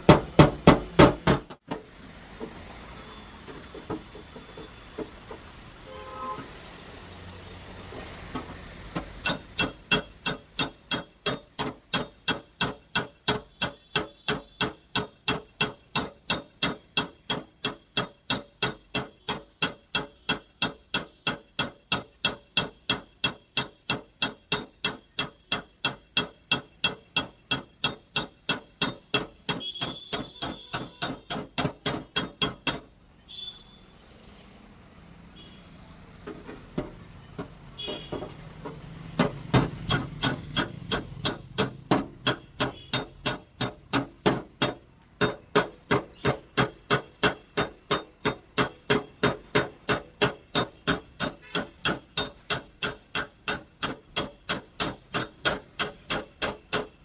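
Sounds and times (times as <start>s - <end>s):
hammer tapping sheet metal: 0.0s - 1.6s, 8.9s - 33.0s, 36.2s - 57.0s.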